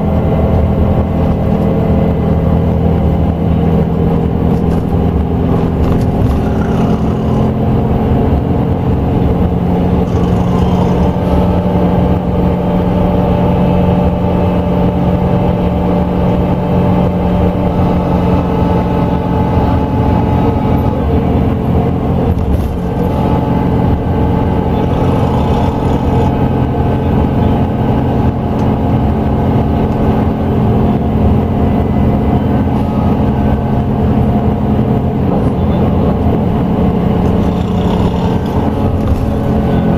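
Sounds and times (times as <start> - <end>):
coach engine droning: 0.0 - 39.9.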